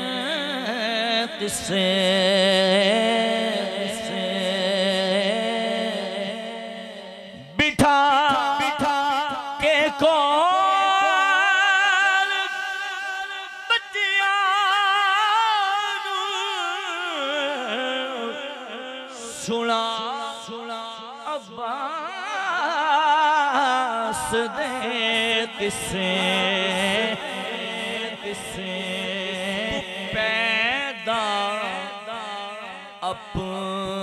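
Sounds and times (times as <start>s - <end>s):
man singing unaccompanied: 0.0s - 34.0s.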